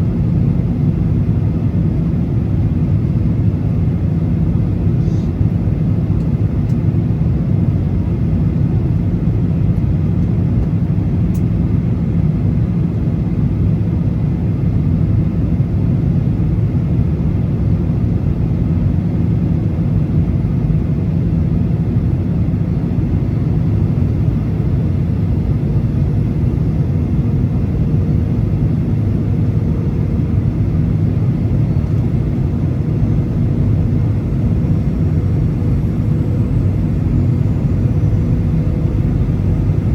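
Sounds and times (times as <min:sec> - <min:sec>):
airplane engines rumbling: 0:00.0 - 0:39.9.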